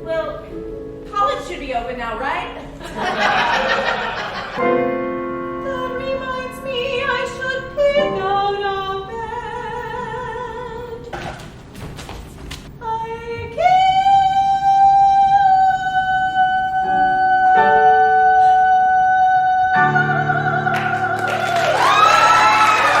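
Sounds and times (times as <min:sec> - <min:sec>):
piano chords: 0:00.0 - 0:11.7, 0:12.8 - 0:23.0.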